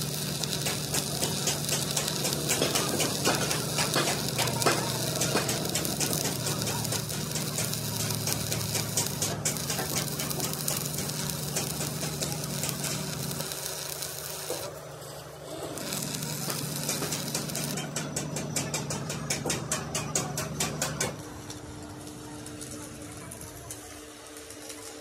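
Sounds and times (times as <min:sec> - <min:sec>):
workshop machinery humming: 0:00.0 - 0:25.0
rapid regular clicks: 0:00.1 - 0:14.7, 0:15.8 - 0:21.2.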